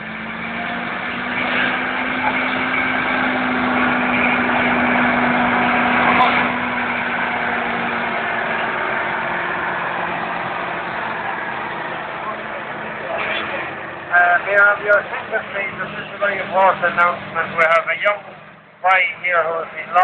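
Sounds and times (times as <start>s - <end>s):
tractor engine revving under load: 0.0s - 20.0s.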